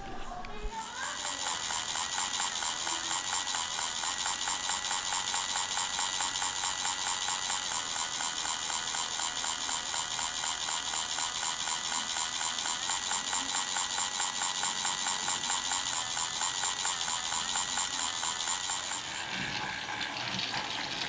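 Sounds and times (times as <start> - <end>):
toy train motor whirring: 0.7 - 21.0
rapid gear clicking: 1.0 - 21.0.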